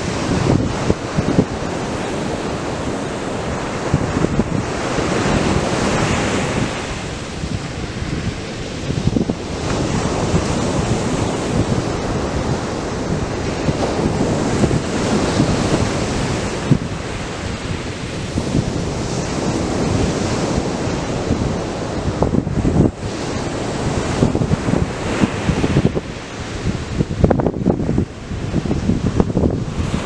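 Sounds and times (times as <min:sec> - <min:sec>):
surf breaking on a beach: 0:00.0 - 0:30.0
wind buffeting microphone: 0:00.0 - 0:30.0.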